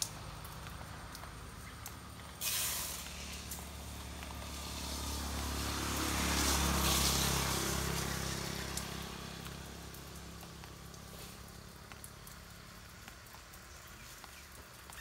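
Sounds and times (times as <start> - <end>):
low engine hum: 0.0 - 15.0
vehicle passing with rushing hiss: 0.0 - 15.0.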